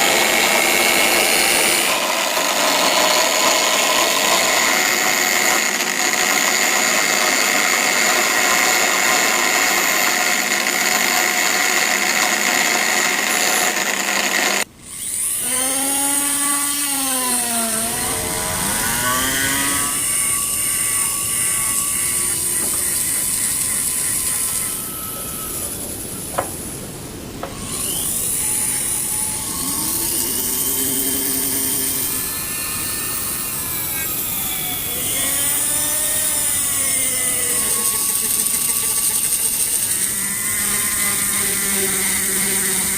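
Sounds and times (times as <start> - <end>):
power tool running: 0.0 - 26.8, 27.4 - 42.9.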